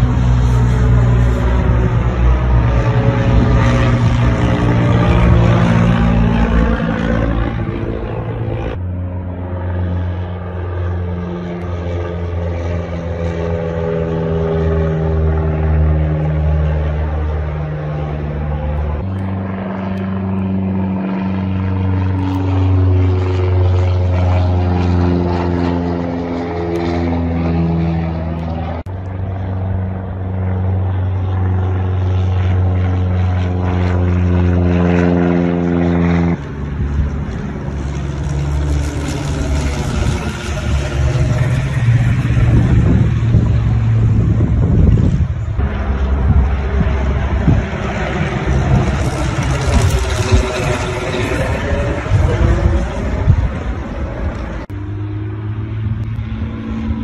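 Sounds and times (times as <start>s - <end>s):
light aircraft flying overhead: 0.0s - 57.0s.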